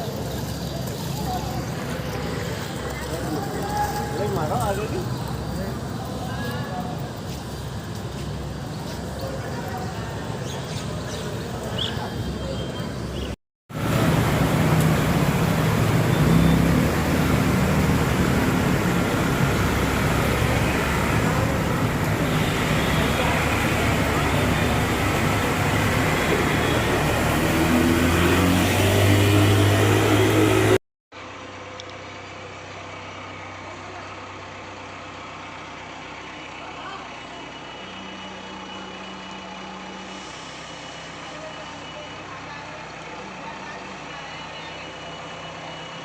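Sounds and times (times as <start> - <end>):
road noise: 0.0 - 46.0
street noise rumble: 0.0 - 46.0
vehicle engines running: 0.0 - 46.0.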